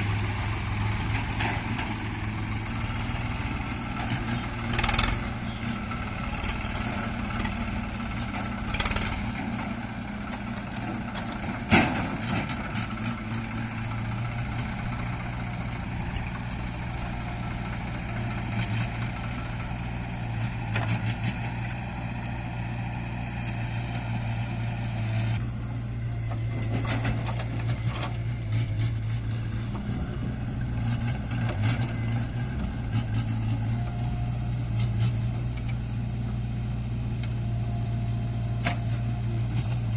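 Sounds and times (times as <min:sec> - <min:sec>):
diesel engine running at low speed: 0:00.0 - 0:39.9.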